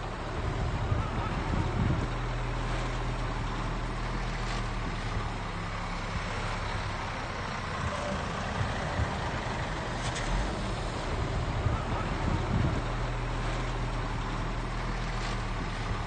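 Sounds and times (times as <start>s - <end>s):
diesel earthmover engine hum: 0.0s - 16.0s.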